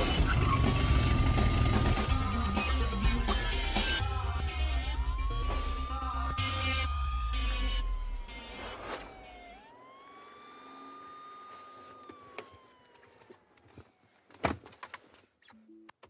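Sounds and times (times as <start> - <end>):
police siren wailing: 0.0 - 14.2.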